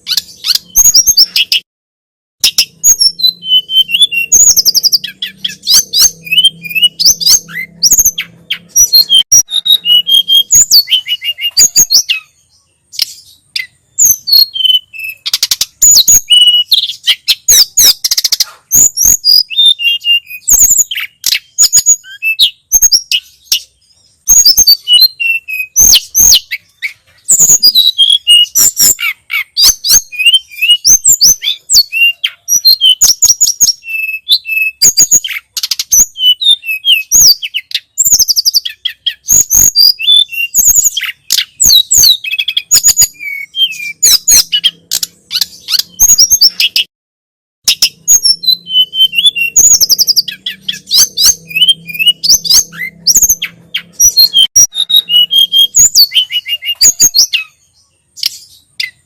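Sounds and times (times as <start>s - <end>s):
songbird whistling and chirping: 0.0s - 1.7s, 2.4s - 46.9s, 47.6s - 59.0s.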